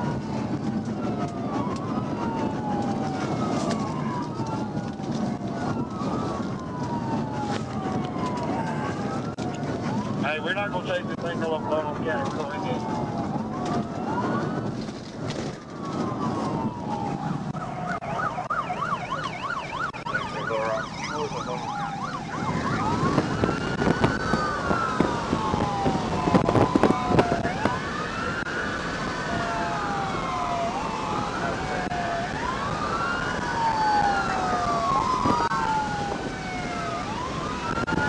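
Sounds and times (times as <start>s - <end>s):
police sirens wailing: 0.0s - 38.0s
road and engine noise: 0.0s - 38.0s.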